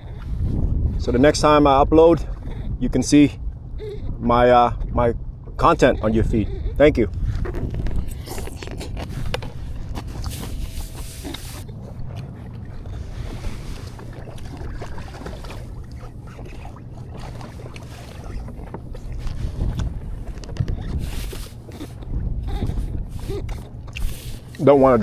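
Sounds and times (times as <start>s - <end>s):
low rumble: 0.0s - 25.0s
wind buffeting microphone: 0.0s - 25.0s.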